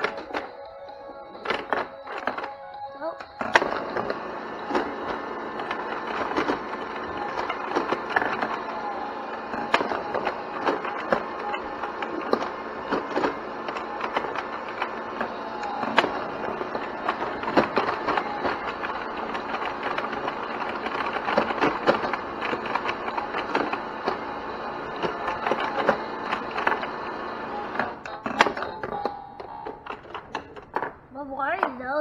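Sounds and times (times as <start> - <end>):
pinball flippers and ball clicking: 0.0 - 32.0.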